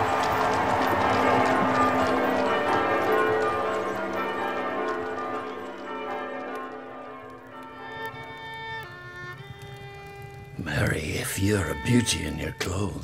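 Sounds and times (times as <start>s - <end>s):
church bells pealing: 0.0s - 13.0s
horses' hooves clip-clopping: 0.0s - 13.0s.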